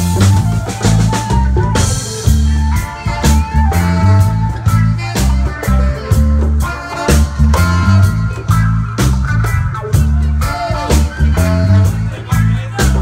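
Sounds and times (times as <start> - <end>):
live reggae band: 0.0 - 13.0.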